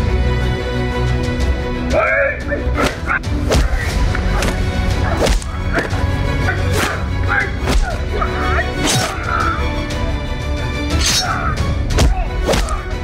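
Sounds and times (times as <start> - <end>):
dramatic music with low drone: 0.0 - 13.0.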